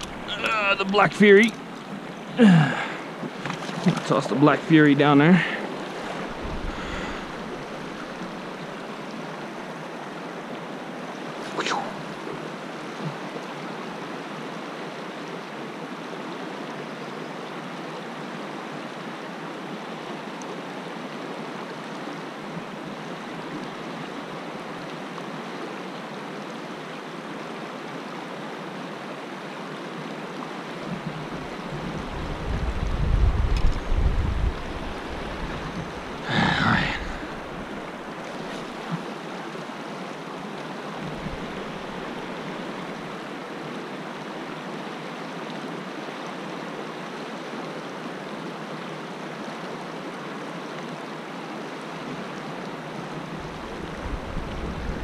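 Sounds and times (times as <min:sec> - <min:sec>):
river rushing over rocks: 0:00.0 - 0:16.6, 0:26.8 - 0:55.0.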